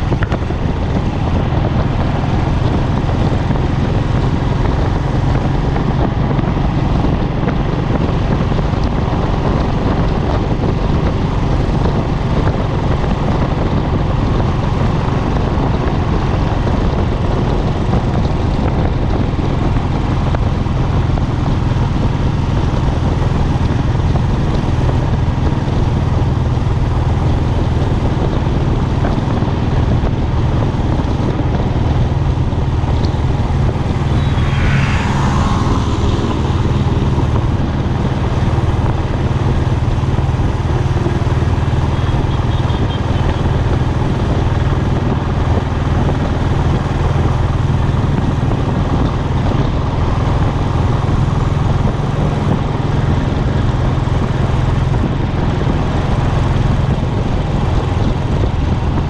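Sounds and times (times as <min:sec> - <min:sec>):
motorcycle engine running: 0:00.0 - 0:59.0
wind on microphone: 0:00.0 - 0:59.0.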